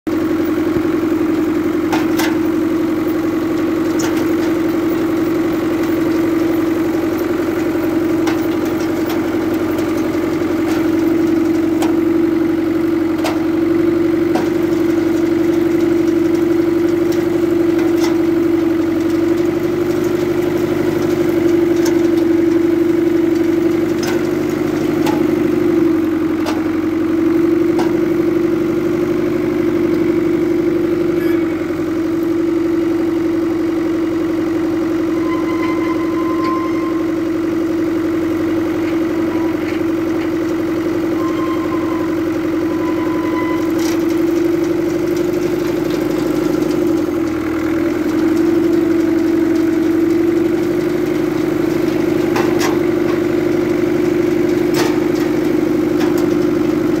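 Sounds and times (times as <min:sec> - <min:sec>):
tractor engine running: 0:00.0 - 0:57.0
metallic clanks from bale loader: 0:00.1 - 0:32.6, 0:34.5 - 0:57.0.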